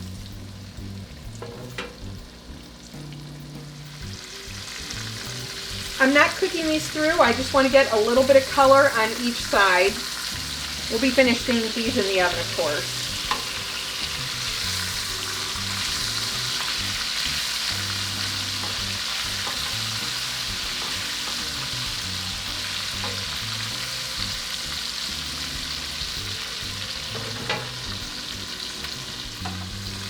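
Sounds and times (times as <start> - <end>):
chicken frying in hot oil: 0.0 - 30.0.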